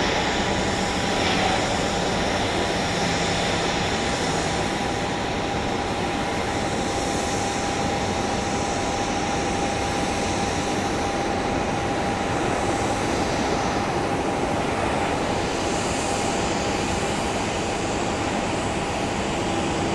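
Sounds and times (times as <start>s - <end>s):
jet engines running at low power: 0.0s - 19.9s.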